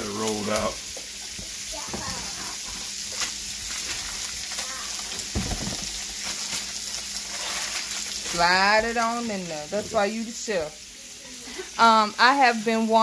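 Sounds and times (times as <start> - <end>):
sausage sizzling in a skillet: 0.0 - 13.0.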